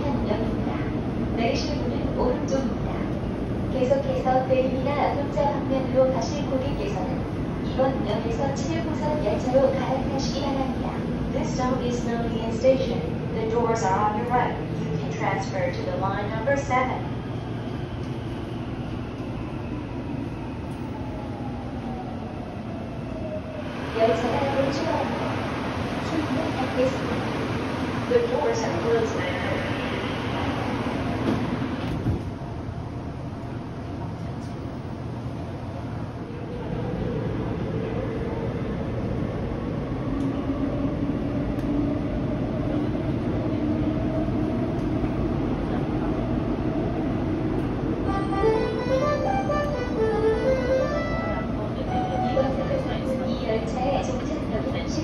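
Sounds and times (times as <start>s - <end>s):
subway train interior rumble: 0.0s - 55.0s.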